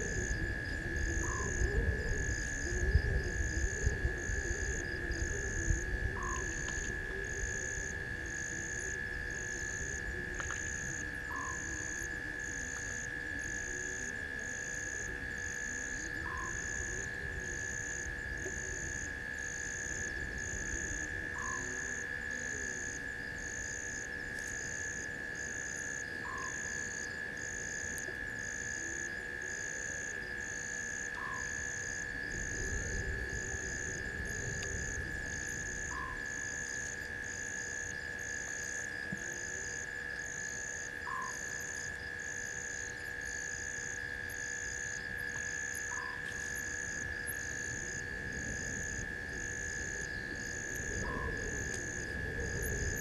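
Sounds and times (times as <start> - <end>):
shrill insect tone: 0.0 - 53.0.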